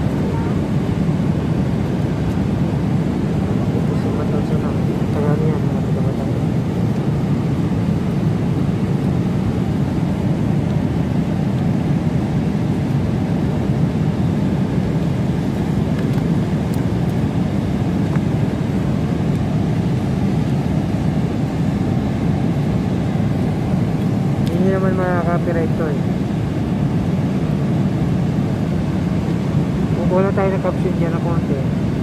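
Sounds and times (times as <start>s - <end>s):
airliner cabin drone in flight: 0.0s - 32.0s.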